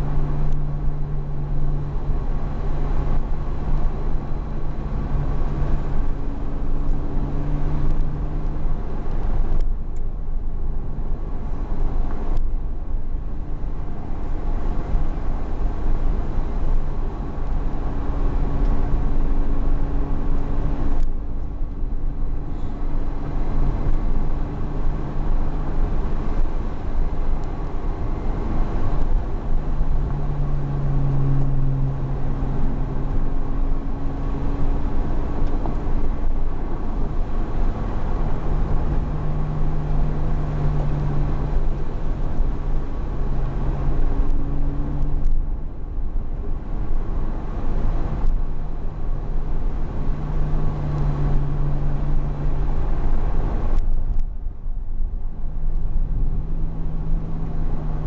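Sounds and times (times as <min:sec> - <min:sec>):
car engine cruising: 0:00.0 - 0:58.0.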